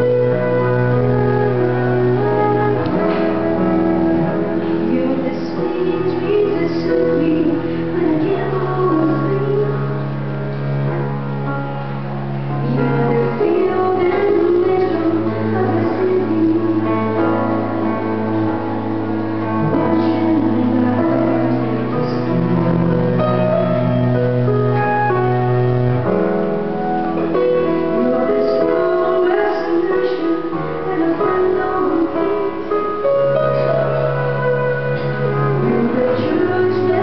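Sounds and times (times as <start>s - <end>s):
woman singing into a microphone: 0.0s - 10.5s, 12.6s - 25.2s, 27.2s - 37.0s
cello low notes: 0.0s - 37.0s
keyboard piano sound: 0.0s - 37.0s.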